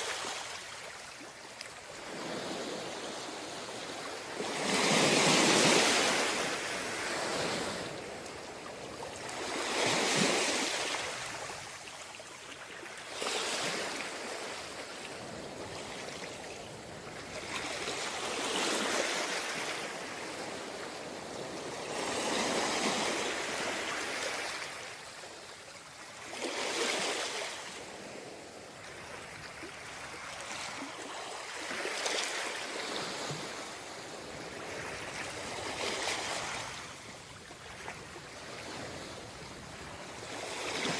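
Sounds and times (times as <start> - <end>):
sea waves breaking on a beach: 0.0 - 40.9.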